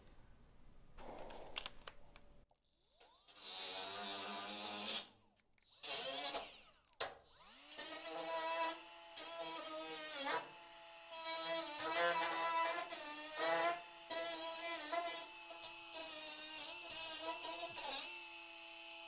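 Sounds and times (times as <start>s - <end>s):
rotary tool grinding metal: 3.0s - 19.0s.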